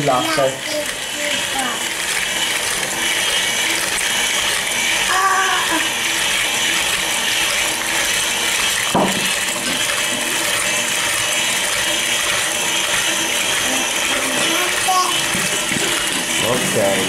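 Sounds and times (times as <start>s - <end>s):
stand mixer running: 0.0s - 17.0s.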